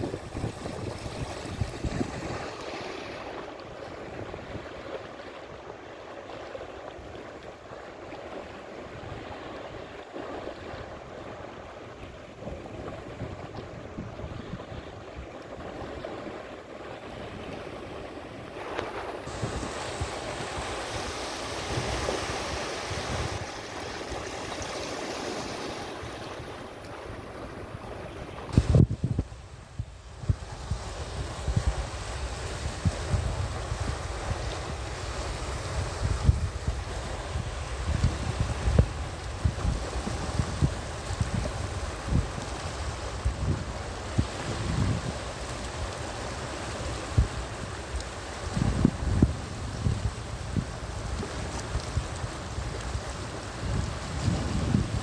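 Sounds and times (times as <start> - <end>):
small waves washing onto shore: 0.0 - 55.0.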